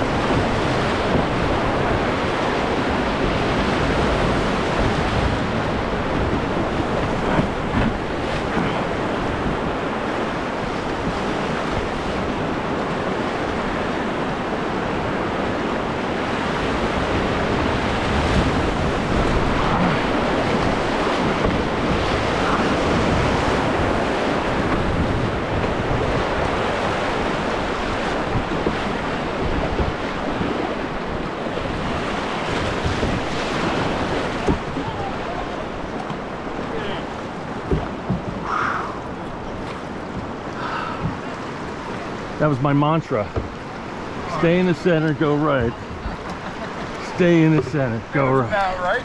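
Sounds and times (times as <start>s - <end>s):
whitewater rapids rushing: 0.0s - 49.0s.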